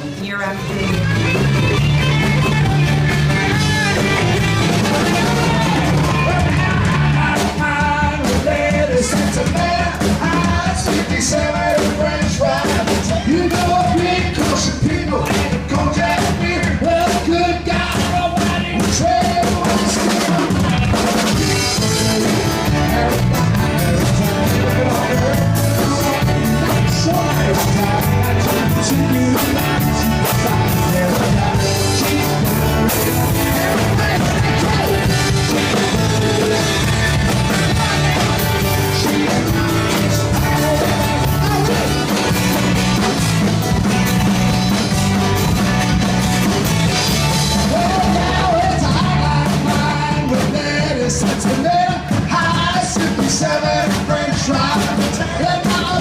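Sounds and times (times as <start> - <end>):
person singing: 0.0 - 43.8, 46.5 - 56.0
drum kit: 0.0 - 56.0
live rock band playing: 0.0 - 56.0.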